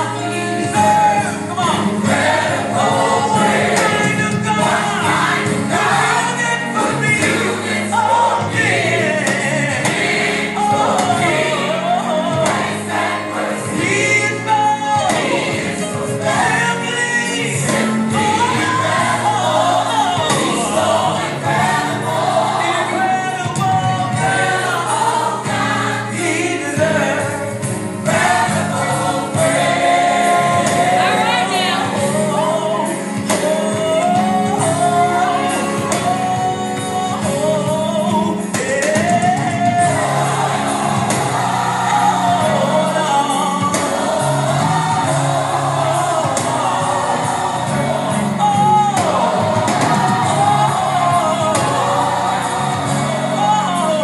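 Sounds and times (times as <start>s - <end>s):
gospel choir singing: 0.0s - 54.0s
sustained accompaniment: 0.0s - 54.0s.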